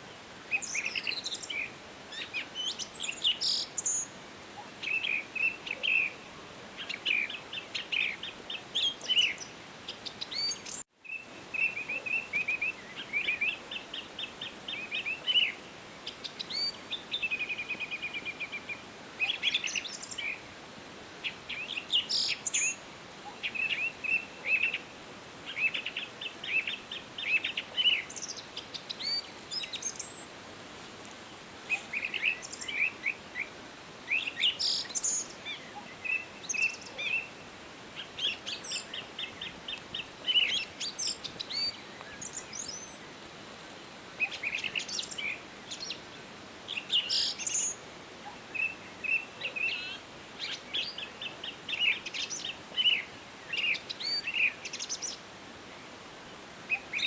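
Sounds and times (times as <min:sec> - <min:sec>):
songbirds singing: 0:00.0 - 0:20.6, 0:21.2 - 0:30.4, 0:31.0 - 0:57.0
faint steady hiss: 0:00.0 - 0:57.0.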